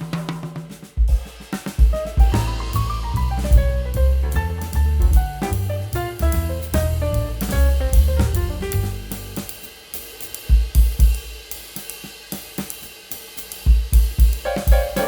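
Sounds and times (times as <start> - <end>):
heavy kick-drum beats: 0.0 - 15.0
hi-hat and cymbal ticks: 1.4 - 15.0.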